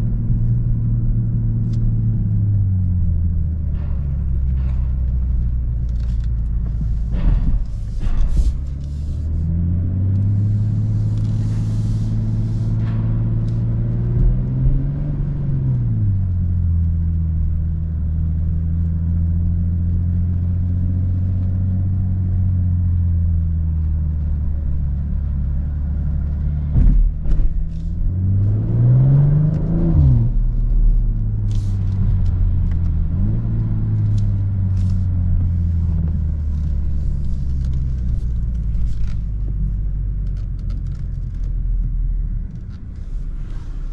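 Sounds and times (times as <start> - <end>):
car engine cruising: 0.0 - 43.9
engine revving and gear shifting: 5.8 - 43.9.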